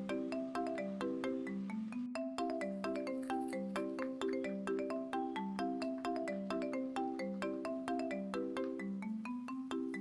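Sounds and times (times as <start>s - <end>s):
comical marimba tune: 0.0s - 10.0s.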